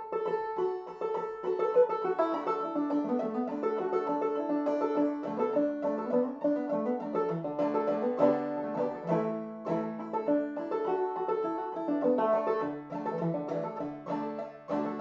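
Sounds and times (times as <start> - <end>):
banjo playing old-time tune: 0.0 - 15.0.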